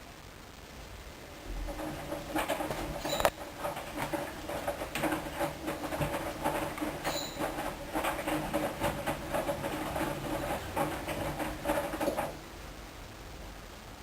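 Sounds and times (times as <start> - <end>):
wet laundry tumbling: 1.3 - 12.7
washing machine drum turning: 1.4 - 12.7.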